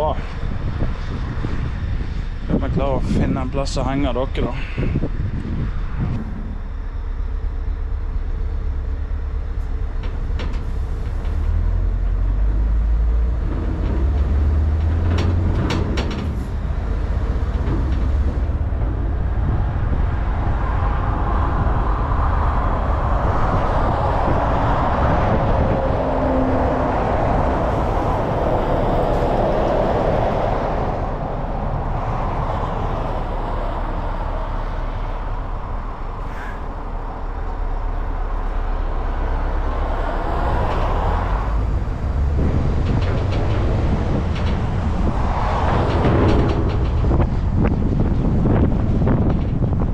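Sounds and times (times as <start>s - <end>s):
road noise: 0.0s - 49.9s
truck diesel engine drone: 0.0s - 49.9s.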